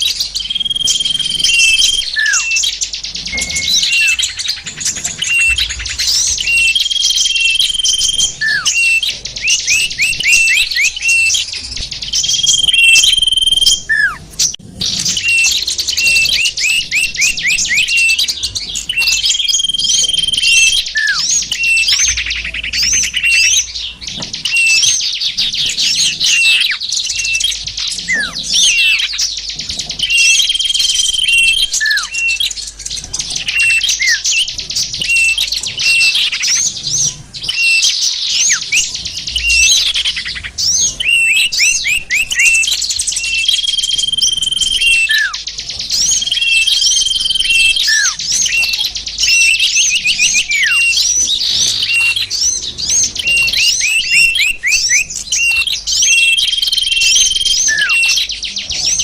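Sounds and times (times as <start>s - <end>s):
songbirds chirping and twittering: 0.0s - 59.0s.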